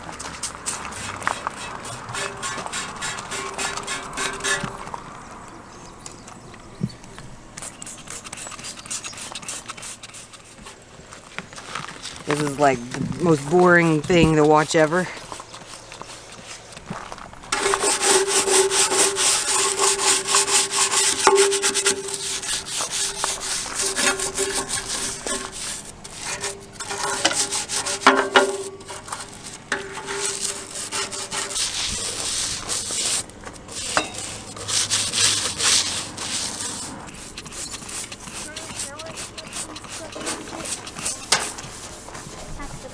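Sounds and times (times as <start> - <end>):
hand scrubbing strokes: 0.0 - 5.0, 7.5 - 10.9, 11.6 - 42.9.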